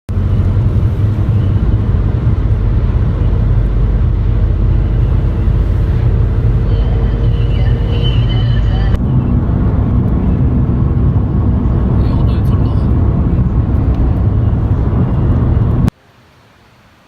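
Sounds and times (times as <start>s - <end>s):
car engine and road noise: 0.1s - 17.0s.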